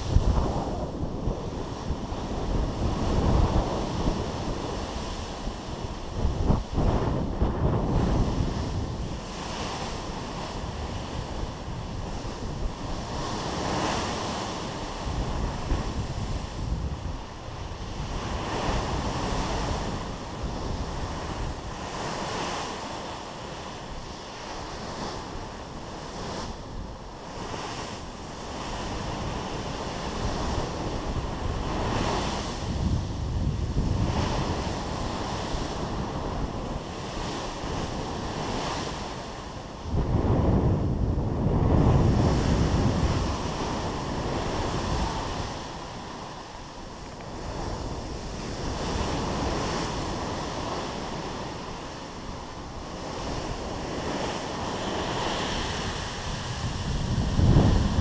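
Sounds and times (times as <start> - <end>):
water rushing along ship hull: 0.0 - 58.0
wind buffeting microphone: 0.0 - 58.0.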